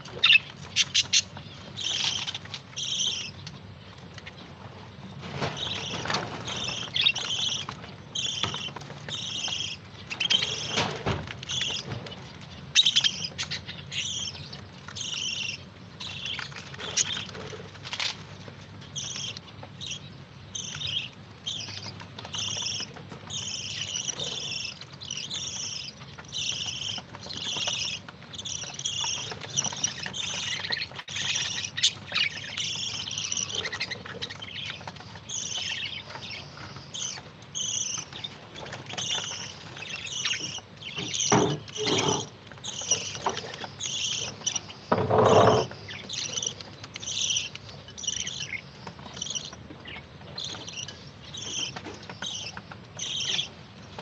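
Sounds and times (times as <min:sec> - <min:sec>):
budgerigars chirping: 0:00.0 - 0:04.5, 0:05.4 - 0:18.2, 0:18.8 - 0:54.0.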